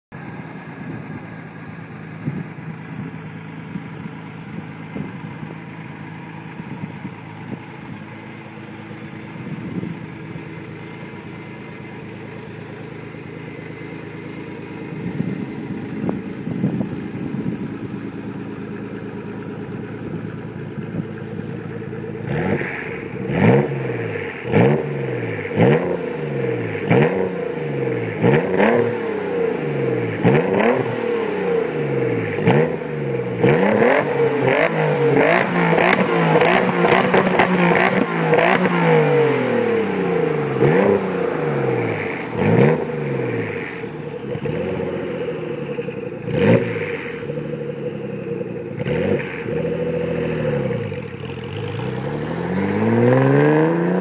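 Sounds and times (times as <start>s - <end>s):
car engine idling and revving: 0.1s - 54.0s.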